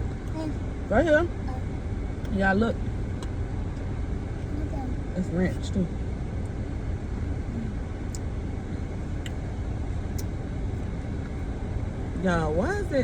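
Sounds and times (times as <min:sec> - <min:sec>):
car idling rumble: 0:00.0 - 0:13.0.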